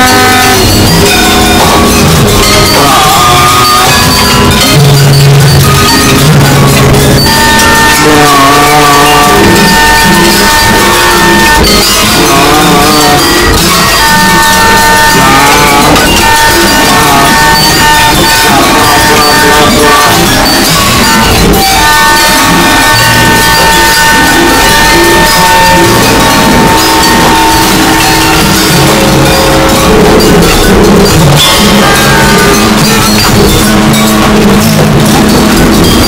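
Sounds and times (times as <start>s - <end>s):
harsh noise wall: 0.0s - 36.0s
low tone: 0.0s - 36.0s
steady high tones: 0.0s - 36.0s.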